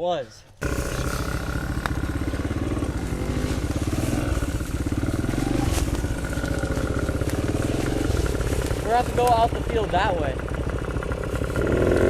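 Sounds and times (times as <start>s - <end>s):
small motorbike engine running: 0.6s - 12.0s.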